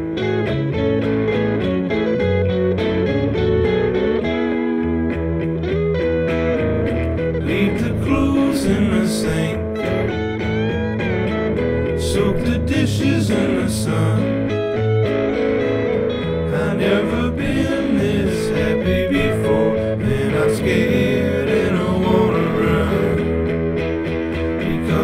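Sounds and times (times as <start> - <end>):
song with guitar: 0.0 - 25.0.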